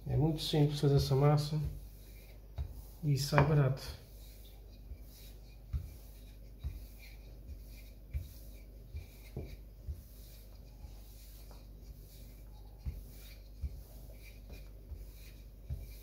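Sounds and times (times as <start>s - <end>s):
rolling pin rubbing on dough: 0.2s - 16.0s
rolling pin soft thuds: 0.9s - 16.0s.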